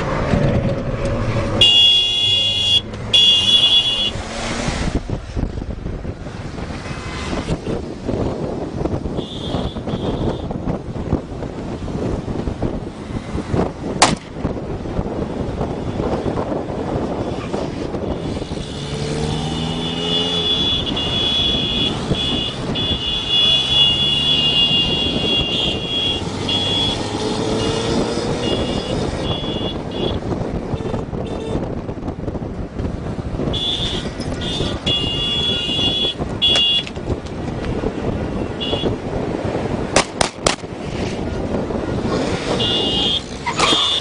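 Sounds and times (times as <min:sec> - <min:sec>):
car driving fast: 0:00.0 - 0:09.9, 0:10.5 - 0:44.0
road and wind noise: 0:00.0 - 0:44.0.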